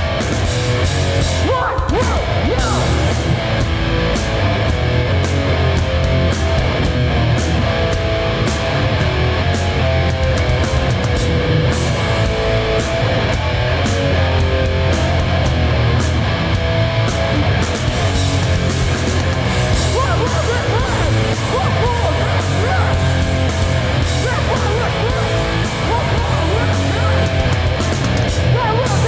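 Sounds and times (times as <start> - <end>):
bass guitar: 0.0 - 29.0
distorted electric guitars: 0.0 - 29.0
drums with cymbal and snare: 0.0 - 29.0.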